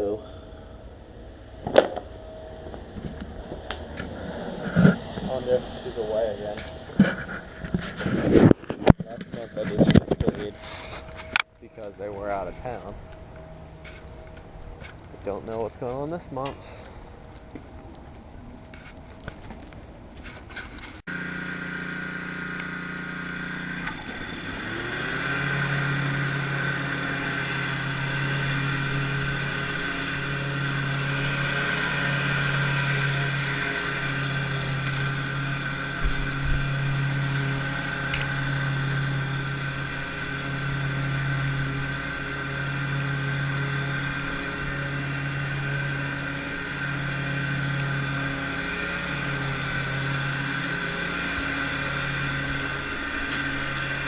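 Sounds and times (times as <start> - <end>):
lawn mower engine running: 0.0 - 19.5, 20.5 - 54.0.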